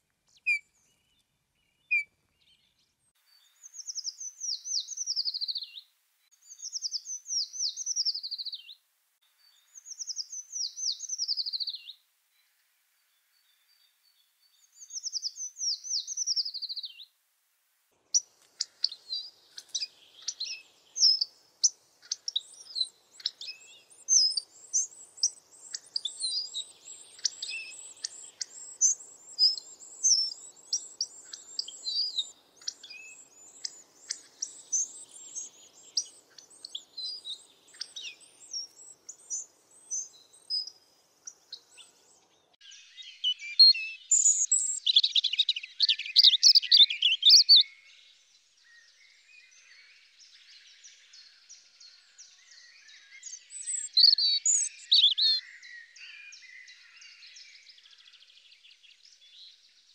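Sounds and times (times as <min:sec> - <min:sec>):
songbirds singing: 0:00.0 - 0:17.2, 0:18.0 - 0:59.9.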